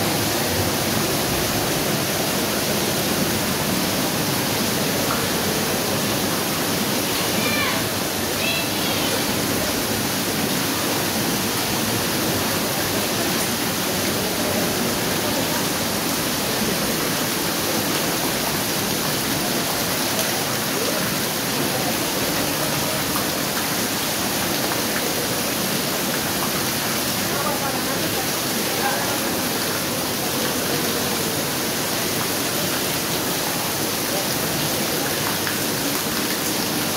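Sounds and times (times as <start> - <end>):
water pouring and dripping: 0.0 - 36.9.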